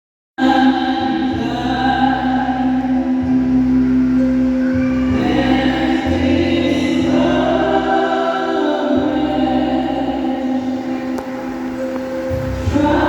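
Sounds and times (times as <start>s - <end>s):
choir singing gospel in harmony: 0.4s - 13.0s.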